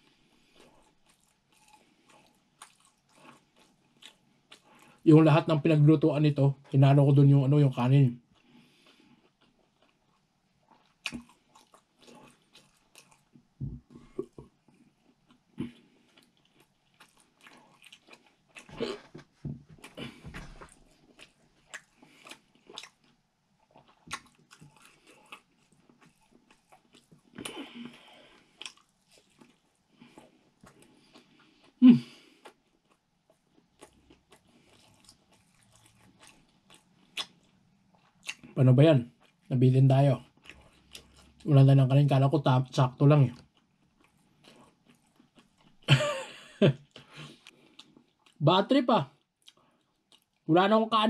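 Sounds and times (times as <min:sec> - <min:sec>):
man chewing with mouth clicks: 0:00.0 - 0:05.0, 0:08.3 - 0:39.5, 0:40.2 - 0:41.5, 0:43.4 - 0:45.9, 0:46.8 - 0:48.4, 0:49.2 - 0:50.5.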